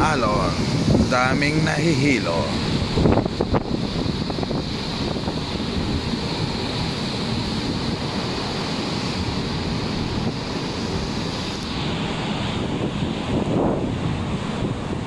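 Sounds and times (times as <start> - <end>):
rough sea waves breaking: 0.0 - 15.0
wind buffeting microphone: 0.0 - 15.0.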